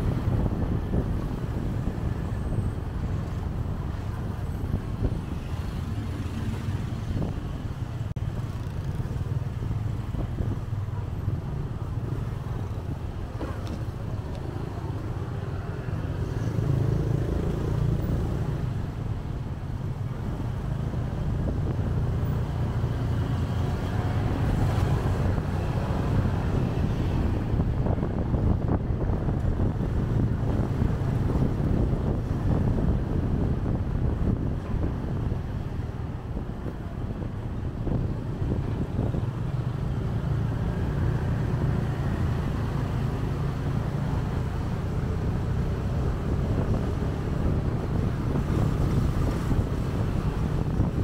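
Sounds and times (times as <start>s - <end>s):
motorcycle engine rumble: 0.0s - 51.0s
road noise: 0.0s - 51.0s.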